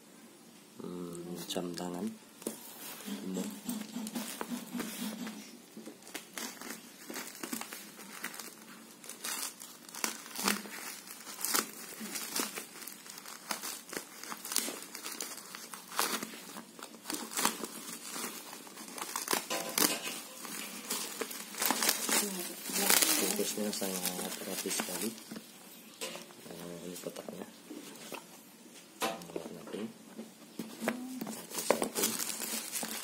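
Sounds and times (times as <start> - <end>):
plastic packaging crinkling and tearing: 2.8 - 27.4, 30.7 - 33.0.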